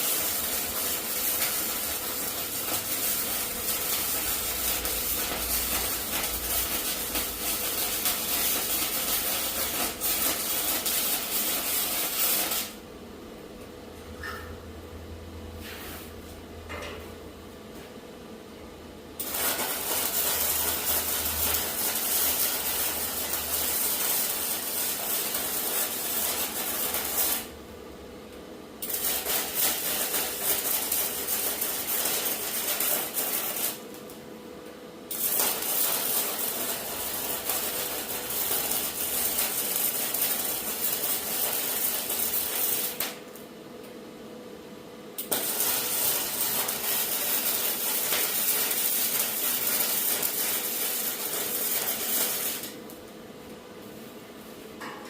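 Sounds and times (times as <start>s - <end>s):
arc welding crackling sizzle: 0.0s - 12.9s, 19.1s - 27.6s, 28.2s - 43.5s, 45.0s - 54.2s.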